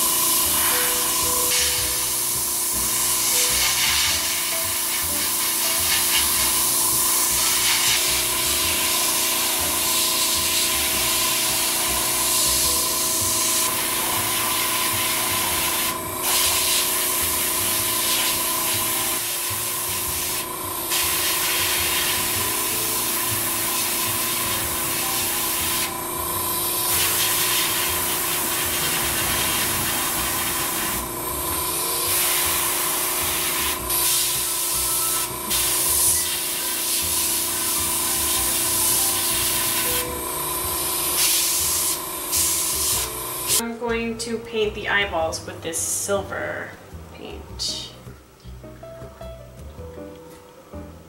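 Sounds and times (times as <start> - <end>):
airbrush hissing: 0.0 - 43.6
small compressor humming: 0.0 - 51.0.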